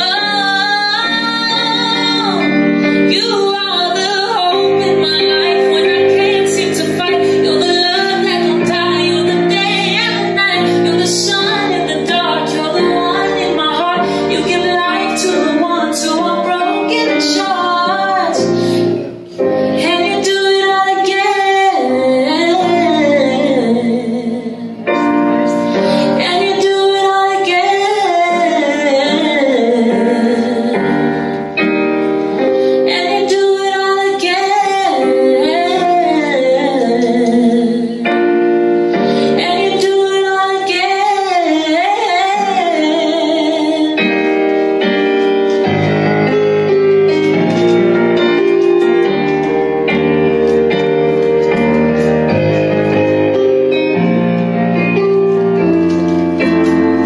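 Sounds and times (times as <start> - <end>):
woman singing: 0.0 - 31.4, 32.4 - 49.3
electronic keyboard piano chords: 0.0 - 57.0.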